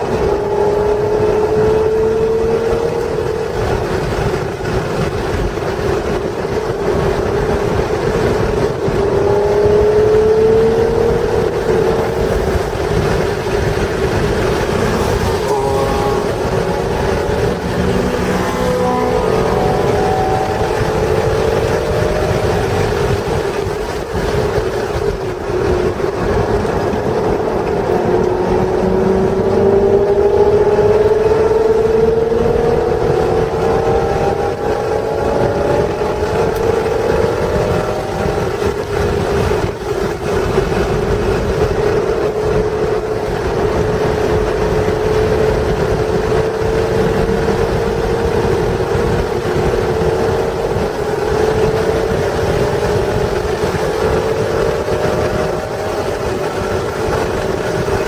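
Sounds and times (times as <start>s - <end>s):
car engine running hard: 0.0s - 58.0s
wind and road noise: 0.0s - 58.0s.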